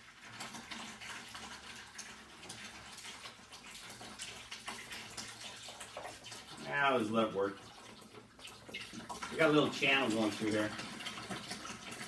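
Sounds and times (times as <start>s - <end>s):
liquid trickling through drain: 0.0s - 12.0s.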